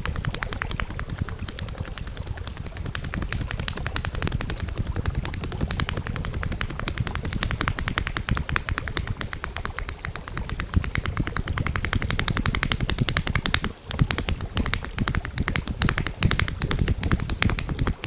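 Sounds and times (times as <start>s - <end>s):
hands slapping a body: 0.0s - 18.0s
low steady hum: 0.0s - 18.0s.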